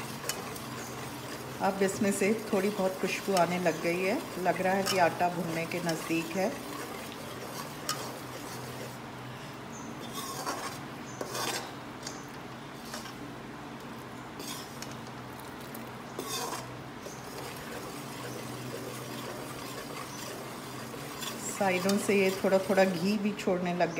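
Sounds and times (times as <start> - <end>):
spatula scraping a pan: 0.0 - 13.3, 14.4 - 15.1, 16.1 - 23.2.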